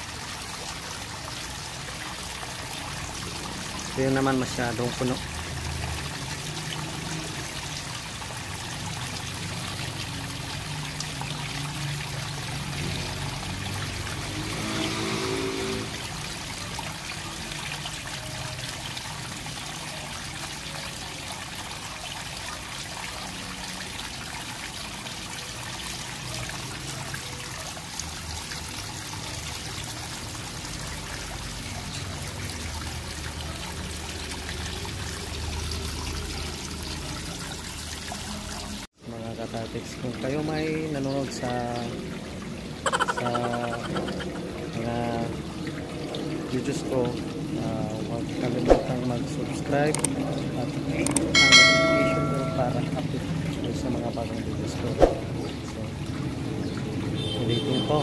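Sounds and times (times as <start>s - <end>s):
water splashing onto concrete: 0.0s - 38.9s, 39.9s - 58.0s
water running from drain pipe: 0.0s - 58.0s.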